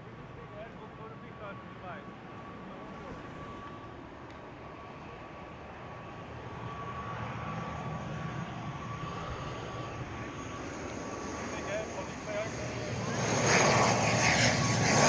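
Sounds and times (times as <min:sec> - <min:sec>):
jet engine high whine: 0:00.0 - 0:15.0
jet engines low rumble: 0:00.0 - 0:15.0.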